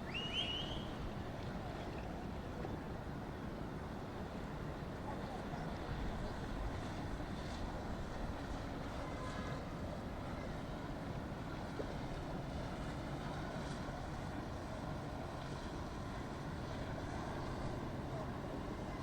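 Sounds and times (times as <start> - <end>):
boat motors running: 0.0 - 19.0
waves washing: 0.0 - 19.0.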